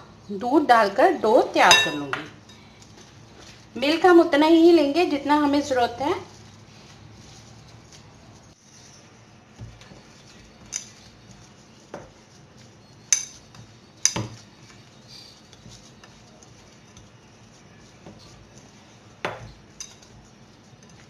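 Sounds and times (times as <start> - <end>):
dough being kneaded by hand: 1.4 - 21.0.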